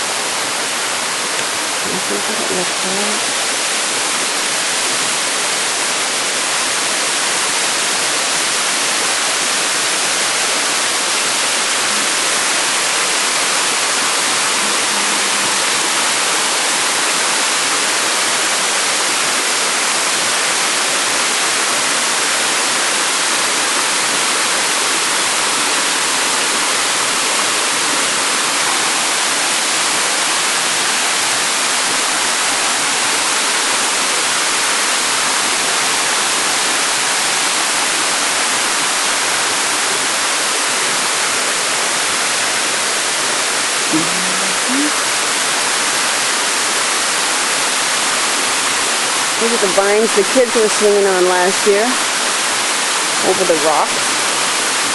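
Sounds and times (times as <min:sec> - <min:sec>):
waterfall pouring: 0:00.0 - 0:54.9.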